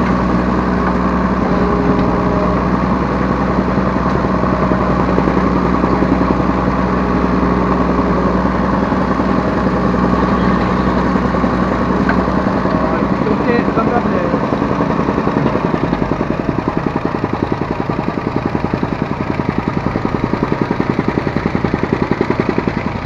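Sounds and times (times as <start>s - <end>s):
mini excavator diesel engine: 0.0s - 23.0s.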